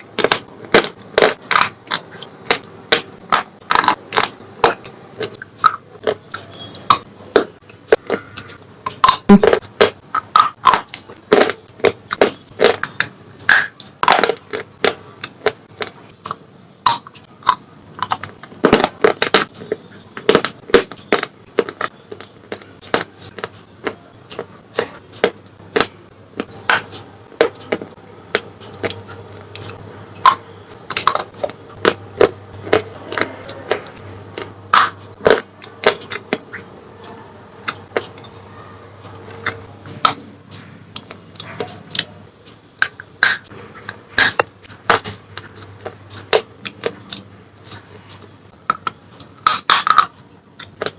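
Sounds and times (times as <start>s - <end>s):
chewing crunches: 0.0s - 50.9s.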